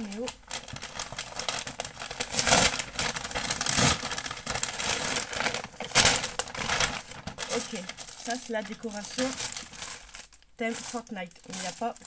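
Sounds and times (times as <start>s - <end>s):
paper packaging crinkling: 0.0s - 12.0s
paper ripping: 0.0s - 12.0s.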